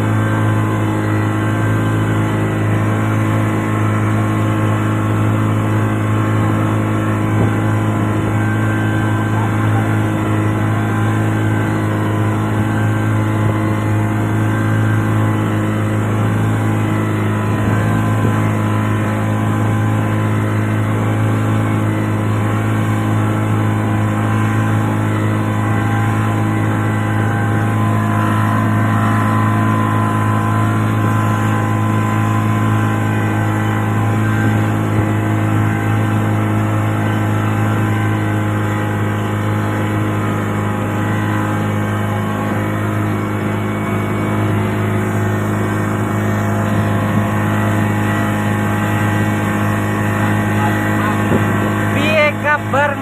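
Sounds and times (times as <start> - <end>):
boat engine droning: 0.0 - 53.0.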